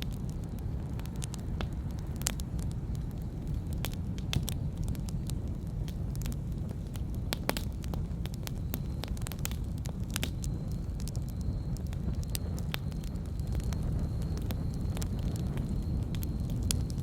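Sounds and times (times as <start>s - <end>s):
campfire crackles and pops: 0.0s - 17.0s
low fire rumble: 0.0s - 17.0s.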